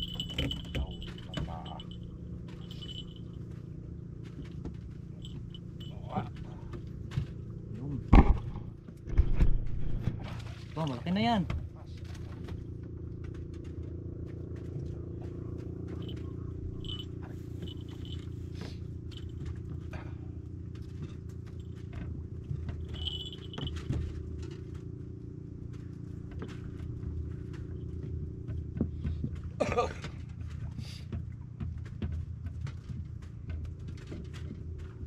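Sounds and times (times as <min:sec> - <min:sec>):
low engine drone: 0:00.0 - 0:35.0.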